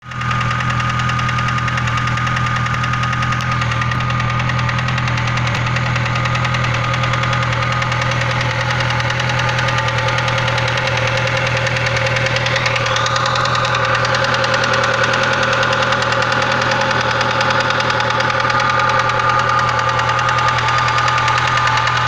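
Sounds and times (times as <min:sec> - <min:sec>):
car engine knocking: 0:00.0 - 0:22.0.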